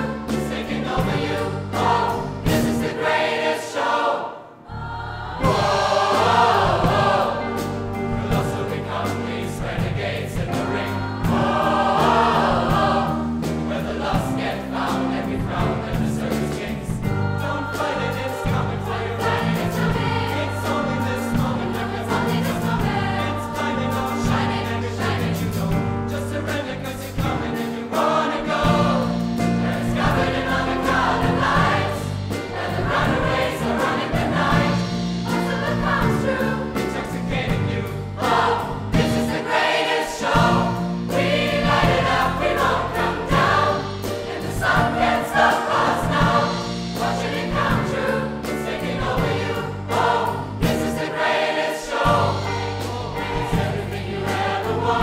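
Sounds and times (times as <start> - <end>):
choir singing show tune: 0.0 - 55.0
live band playing: 4.9 - 55.0.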